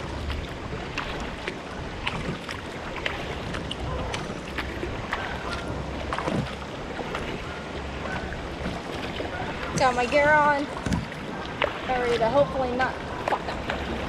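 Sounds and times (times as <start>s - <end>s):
paddle splashes: 0.0s - 14.0s
rushing river water: 0.0s - 14.0s
wind on microphone: 0.0s - 14.0s.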